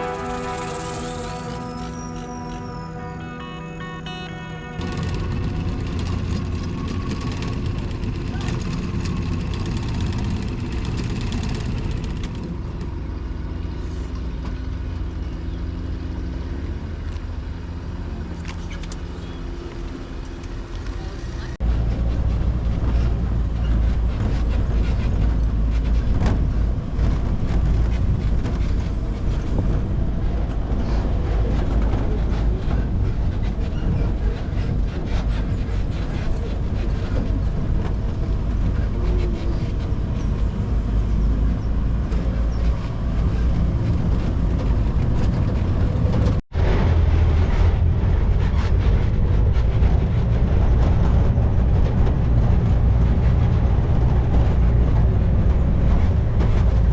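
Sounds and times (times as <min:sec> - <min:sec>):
motor vehicle rumble: 0:00.0 - 0:56.9.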